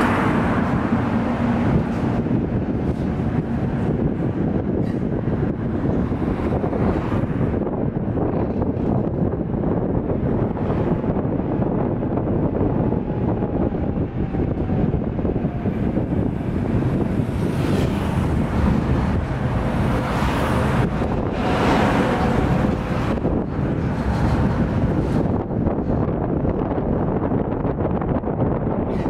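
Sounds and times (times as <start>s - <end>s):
tram wheels rumbling on rails: 0.0s - 29.0s
wind noise on microphone: 0.0s - 29.0s.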